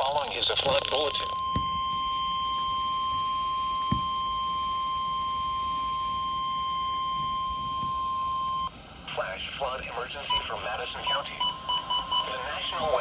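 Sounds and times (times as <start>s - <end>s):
steady high electronic beep: 0.6s - 8.7s, 10.3s - 13.0s.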